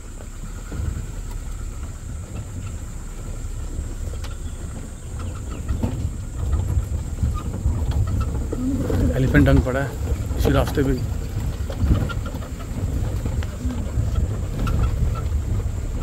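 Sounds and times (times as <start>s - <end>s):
engine and tyre rumble: 0.0s - 16.0s
vehicle knocks and rattles: 0.0s - 16.0s.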